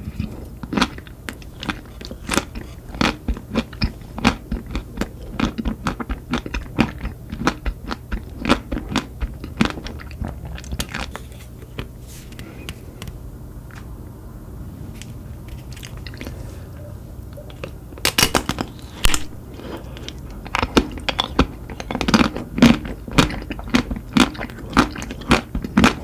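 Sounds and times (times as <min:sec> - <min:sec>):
person chewing crunchy food: 0:00.0 - 0:12.5, 0:15.5 - 0:26.0.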